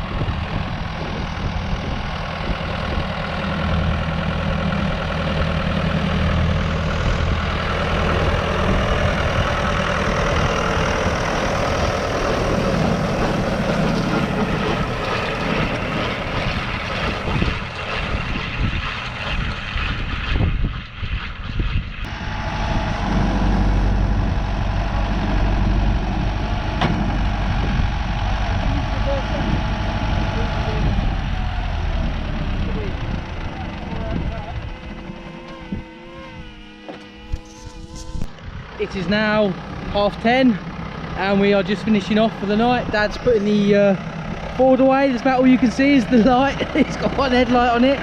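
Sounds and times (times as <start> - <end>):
tractor engine running: 0.0 - 48.0.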